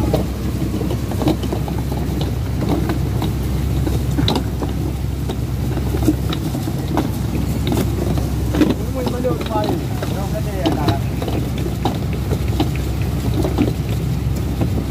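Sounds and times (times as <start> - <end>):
boat engine running: 0.0 - 14.9
light clicks and knocks: 0.0 - 14.9
water rushing along hull: 0.0 - 14.9.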